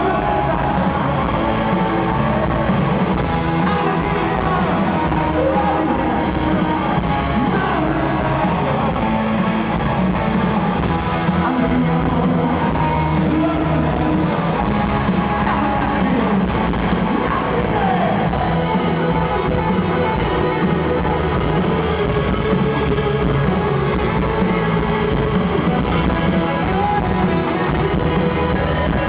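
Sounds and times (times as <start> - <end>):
electric guitar: 0.0 - 29.0
person singing: 0.0 - 29.0.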